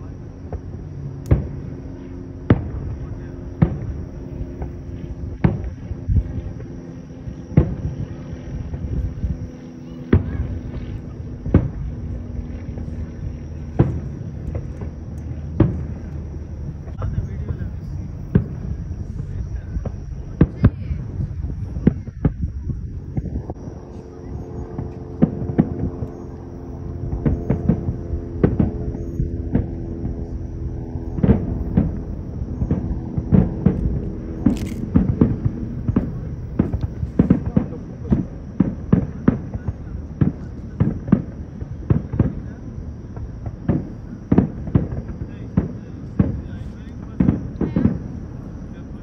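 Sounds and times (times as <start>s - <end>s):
firework bangs: 0.0s - 49.0s
firework crack: 0.0s - 49.0s
low hum: 0.0s - 49.0s
low rumble: 0.0s - 49.0s.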